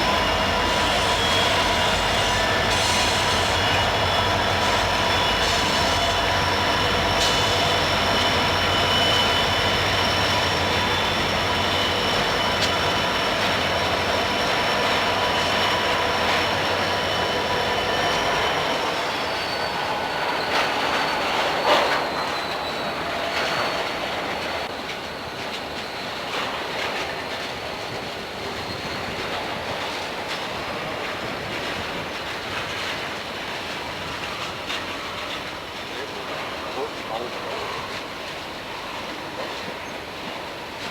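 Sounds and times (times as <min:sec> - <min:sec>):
freight train rumbling past: 0:00.0 - 0:40.9
train wheels squealing: 0:00.0 - 0:40.9.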